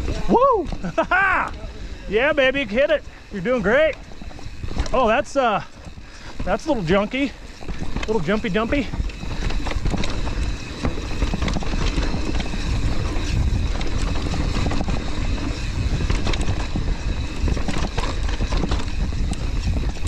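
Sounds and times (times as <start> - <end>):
bike knocking and rattling: 0.0 - 20.0
tyres rumbling on trail: 0.0 - 20.0
wind buffeting microphone: 0.0 - 20.0.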